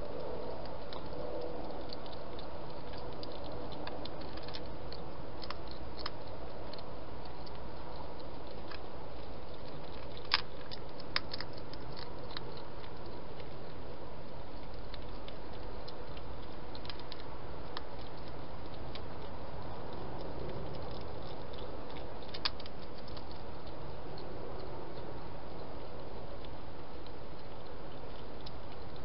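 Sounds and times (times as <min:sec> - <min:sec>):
hedgehog chewing and crunching: 0:00.0 - 0:29.0.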